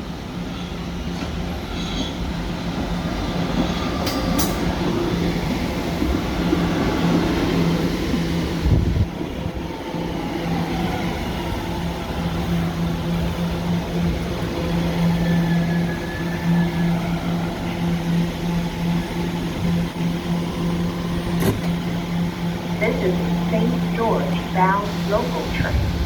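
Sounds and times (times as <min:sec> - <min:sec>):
train humming: 0:00.0 - 0:26.0.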